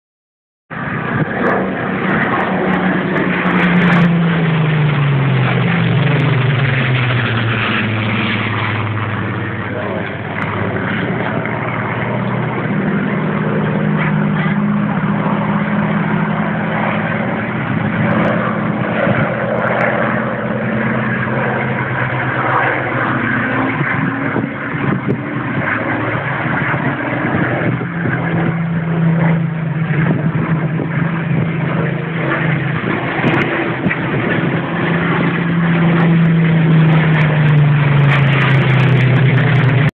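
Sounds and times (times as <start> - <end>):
aircraft engine droning: 0.7 - 39.9.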